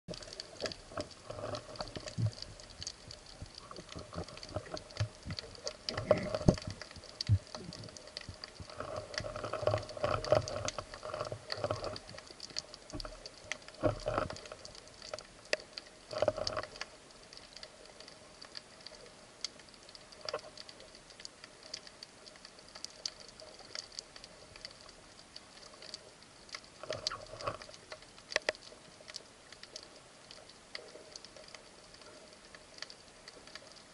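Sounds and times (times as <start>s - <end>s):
underwater crackling clicks: 0.1s - 33.9s.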